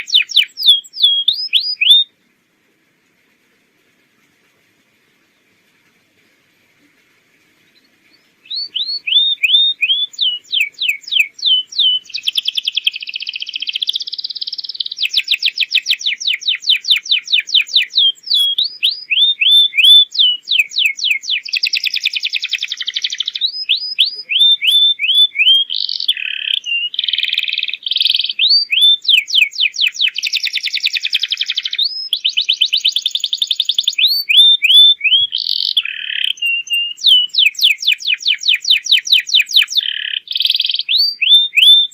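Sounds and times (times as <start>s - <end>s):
canary singing: 0.0s - 2.1s, 7.8s - 41.9s.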